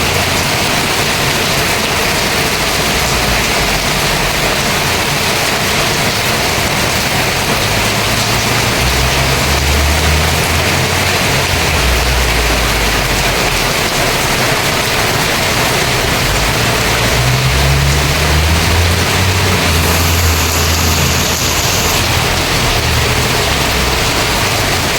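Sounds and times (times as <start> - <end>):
heavy rain pouring: 0.0 - 24.9
wind gusting: 0.0 - 24.9.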